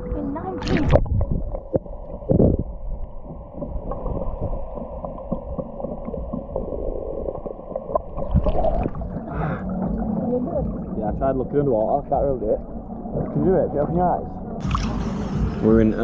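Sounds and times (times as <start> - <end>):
surge of water: 0.0 - 11.6, 14.6 - 16.0
underwater water churning and bubbling: 0.0 - 15.6.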